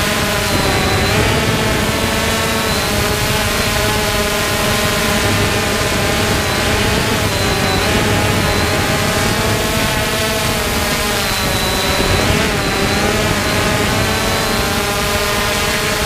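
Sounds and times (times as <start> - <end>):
quadcopter propellers whirring: 0.0 - 16.0.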